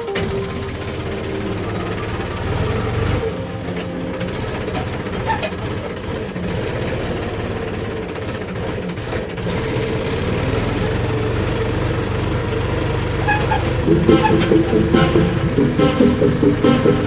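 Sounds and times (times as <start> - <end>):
heavy diesel engine pulsing: 0.0 - 17.0.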